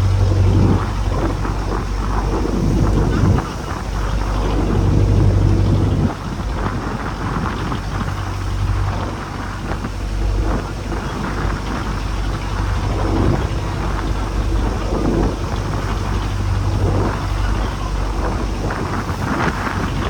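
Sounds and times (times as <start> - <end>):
boat engine humming: 0.0 - 20.0
rough sea: 0.0 - 20.0
wind rushing: 0.0 - 20.0.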